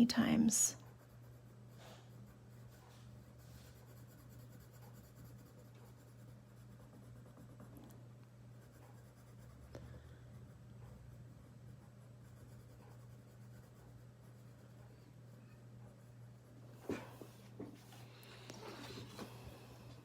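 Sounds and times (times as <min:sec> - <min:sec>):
low electrical hum: 0:00.0 - 0:20.0
pencil scratching on paper: 0:00.2 - 0:17.0.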